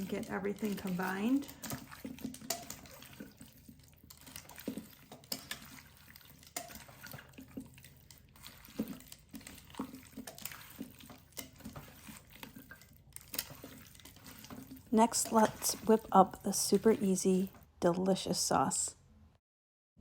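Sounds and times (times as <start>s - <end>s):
food tossed in a crock: 0.0s - 17.6s
wet squishing: 0.0s - 18.3s.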